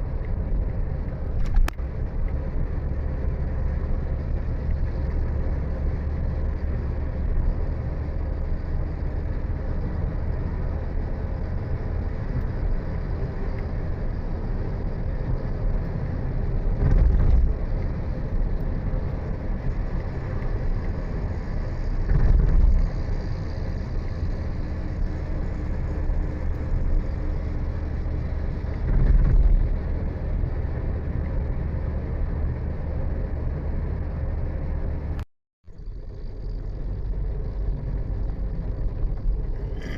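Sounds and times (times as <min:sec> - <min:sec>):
low rumbles: 0:00.0 - 0:39.9
vehicle engine and road noise: 0:00.0 - 0:39.9.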